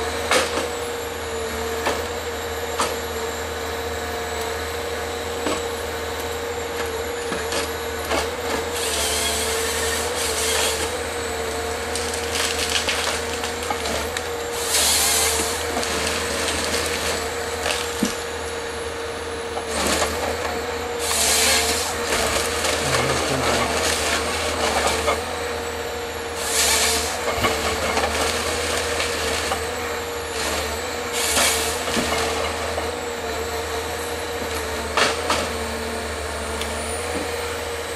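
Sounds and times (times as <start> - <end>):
diesel engine and hydraulics whining: 0.0 - 37.9.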